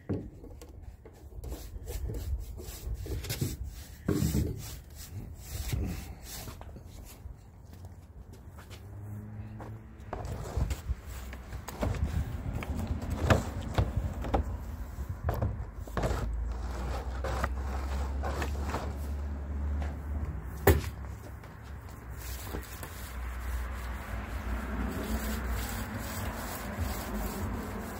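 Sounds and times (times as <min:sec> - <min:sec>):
footsteps on wooden decking: 0:00.0 - 0:09.0, 0:09.6 - 0:23.1
roller on wooden decking: 0:00.0 - 0:27.9.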